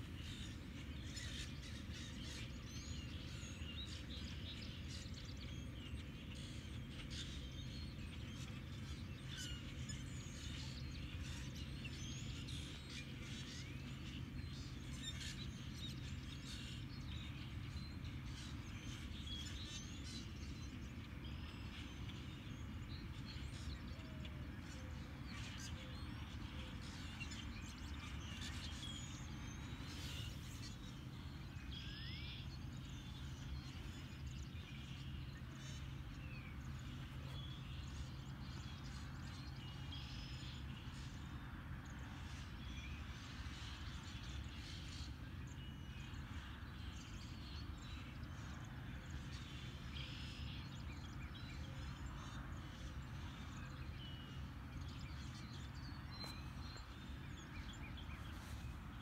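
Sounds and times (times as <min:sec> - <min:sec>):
birds chirping: 0:00.0 - 0:59.0
steady low hum: 0:00.0 - 0:59.0.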